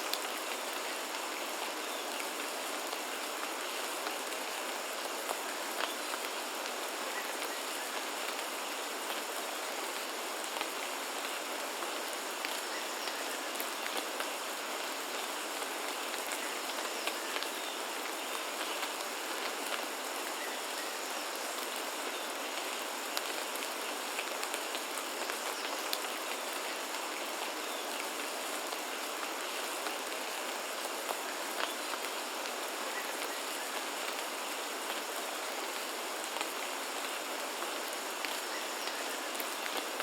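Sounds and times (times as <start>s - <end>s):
rain falling on foliage: 0.0s - 40.0s.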